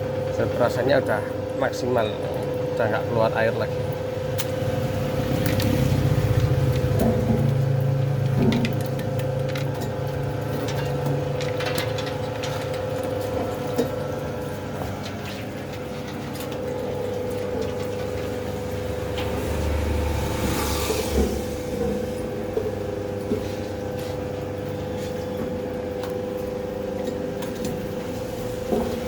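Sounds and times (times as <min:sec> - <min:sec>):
juice press motor humming: 0:00.0 - 0:29.0.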